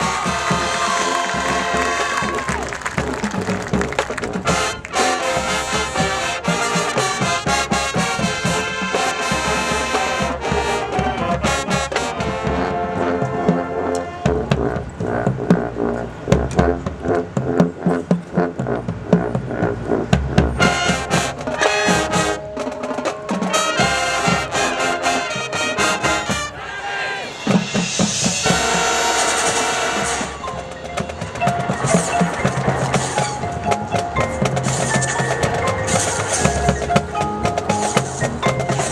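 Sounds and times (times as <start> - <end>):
marching band brass: 0.0 - 38.9
marching band drums and percussion: 0.0 - 38.9.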